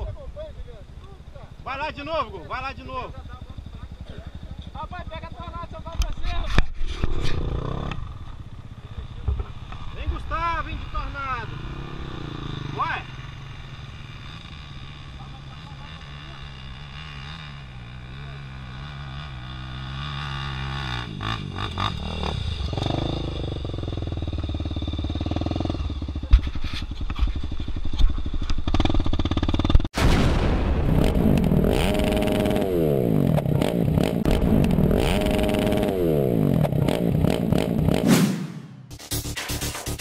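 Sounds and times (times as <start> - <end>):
motorcycle engine revving: 0.7 - 30.0, 30.8 - 40.0.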